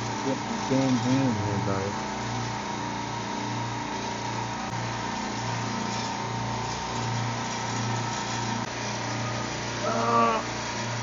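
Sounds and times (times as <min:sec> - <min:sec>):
refrigeration compressors humming: 0:00.0 - 0:11.0
steady machine whine: 0:00.0 - 0:11.0.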